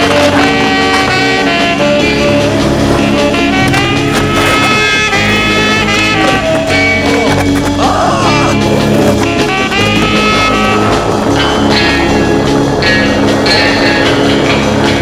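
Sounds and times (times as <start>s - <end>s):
jazzy music with horns: 0.0s - 15.0s.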